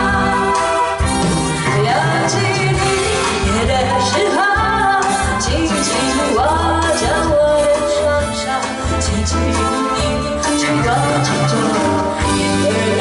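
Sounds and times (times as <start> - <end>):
live band with bass and drums: 0.0 - 13.0
woman singing into a microphone: 0.0 - 13.0.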